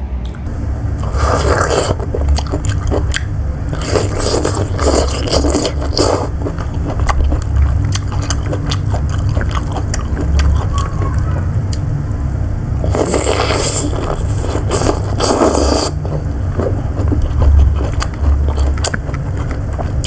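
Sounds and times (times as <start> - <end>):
steady low hum: 0.0 - 20.0
biting and chewing: 1.0 - 11.0, 12.9 - 20.0.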